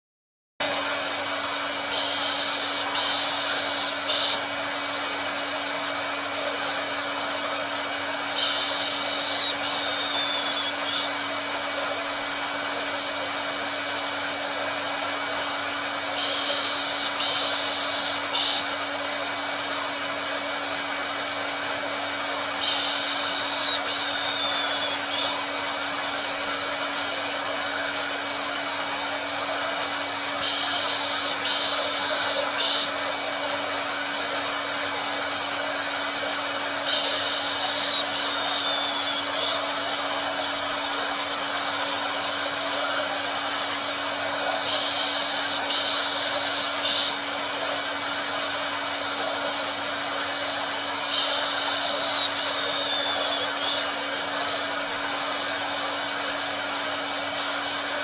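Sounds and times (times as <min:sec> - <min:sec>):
hair dryer blowing: 0:00.6 - 0:58.0.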